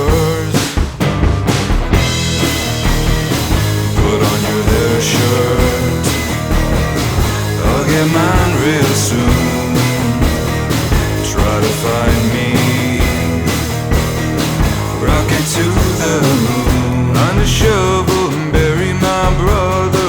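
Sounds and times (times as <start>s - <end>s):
instrumental rock music: 0.0s - 20.0s.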